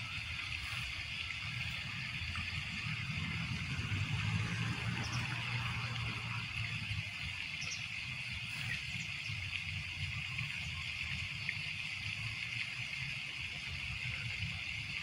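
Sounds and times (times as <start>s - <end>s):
water lapping: 0.0s - 14.1s.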